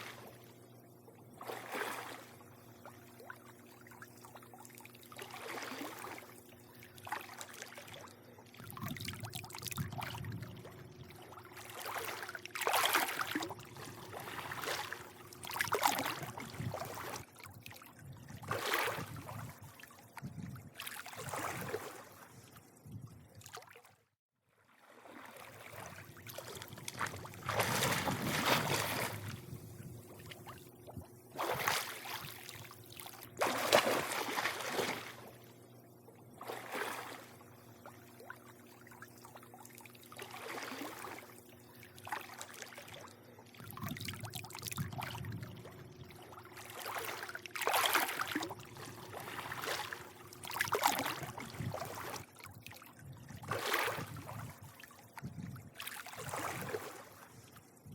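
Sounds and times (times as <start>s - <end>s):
faint steady hum: 0.0s - 24.0s, 24.7s - 57.9s
pool water lapping and sloshing: 0.0s - 57.9s.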